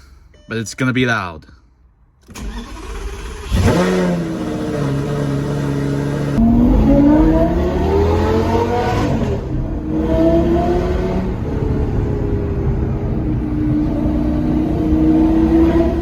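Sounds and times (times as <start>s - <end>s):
sports car engine revving: 2.7s - 16.0s.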